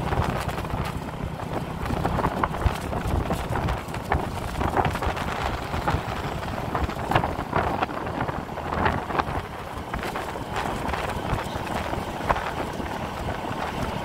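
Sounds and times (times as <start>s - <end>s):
street and vehicle noise: 0.0s - 14.0s
wind buffeting microphone: 0.0s - 14.0s.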